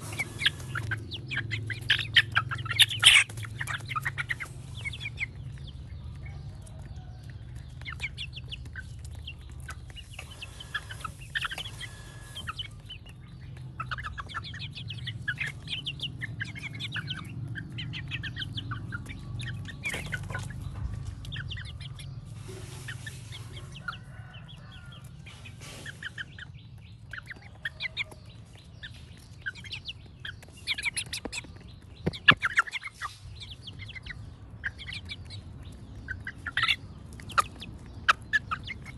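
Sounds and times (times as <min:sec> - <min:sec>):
chickens peeping and clucking: 0:00.0 - 0:38.9.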